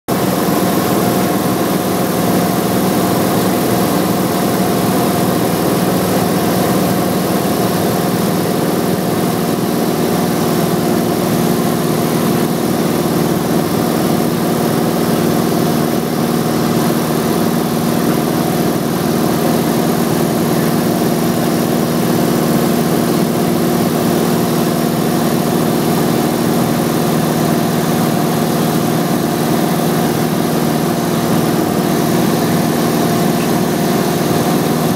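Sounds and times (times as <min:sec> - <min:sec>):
propeller aircraft engine droning: 0:00.1 - 0:34.9.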